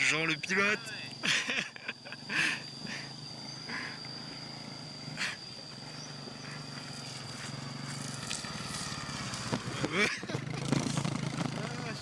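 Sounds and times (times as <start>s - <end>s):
high-pitched whine: 0.0s - 12.0s
motorbike engine hum: 0.0s - 12.0s.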